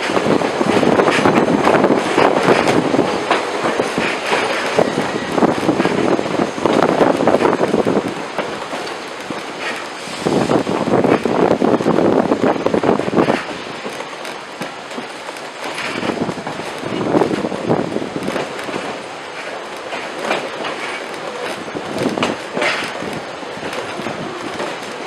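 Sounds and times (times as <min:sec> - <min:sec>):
train wheels clattering over rail joints: 0:00.0 - 0:25.0
wind buffeting microphone: 0:00.0 - 0:25.0.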